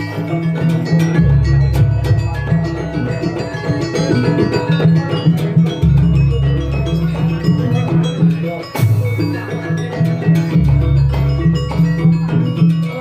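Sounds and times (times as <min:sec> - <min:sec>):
drums: 0:00.0 - 0:13.0
mallet percussion: 0:00.0 - 0:13.0.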